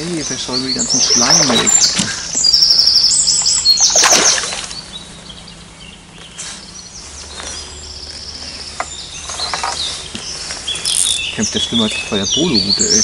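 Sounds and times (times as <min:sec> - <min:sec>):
songbird trilling: 0:00.0 - 0:13.0.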